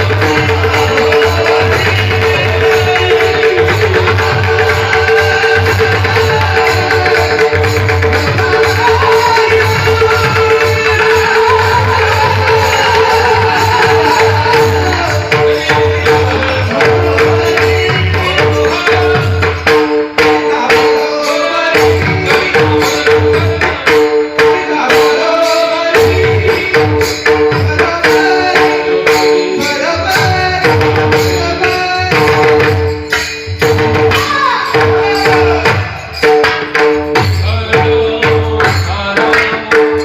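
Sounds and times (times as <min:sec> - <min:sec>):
drum playing fast rhythm: 0:00.0 - 0:40.0.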